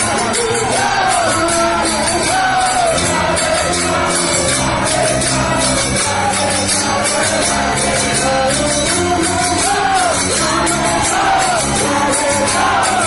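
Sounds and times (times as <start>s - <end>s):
jingling percussion beat: 0.0s - 13.0s
person singing a chant: 0.0s - 13.0s.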